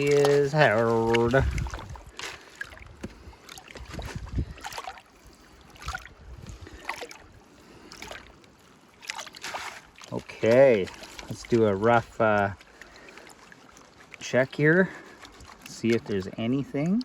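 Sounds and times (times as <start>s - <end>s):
water sloshing in a pan: 0.0s - 17.0s.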